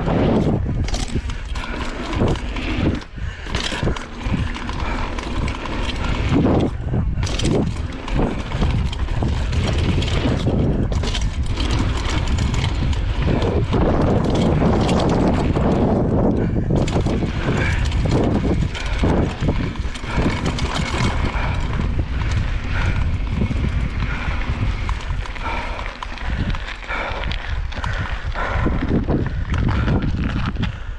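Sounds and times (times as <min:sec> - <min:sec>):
tyres on dirt: 0:00.0 - 0:30.8
bike rattling over bumps: 0:00.0 - 0:30.9
wind rushing over microphone: 0:00.0 - 0:30.9.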